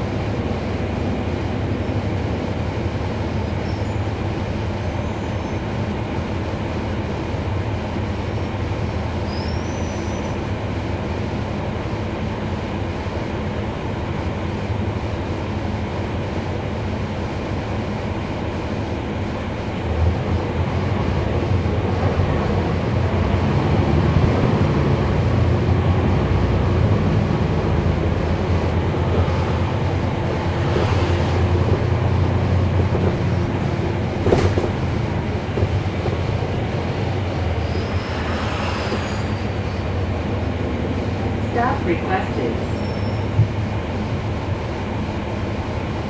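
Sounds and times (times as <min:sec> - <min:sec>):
bus engine droning: 0:00.0 - 0:46.0.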